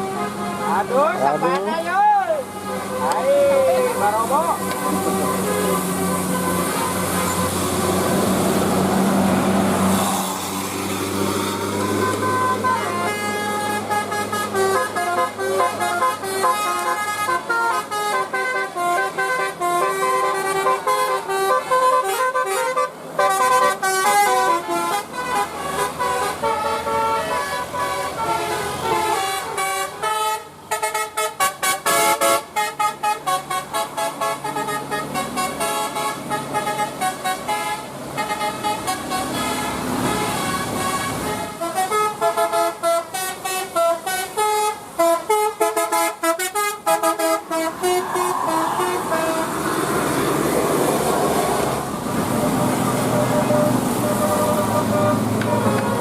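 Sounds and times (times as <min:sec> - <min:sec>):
musical bus horn melody: 0:00.0 - 0:10.5, 0:11.1 - 0:51.0, 0:51.6 - 0:56.0.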